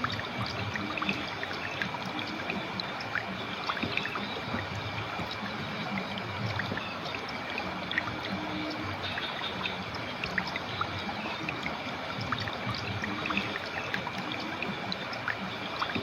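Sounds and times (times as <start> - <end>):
small water splashes: 0.0 - 16.0.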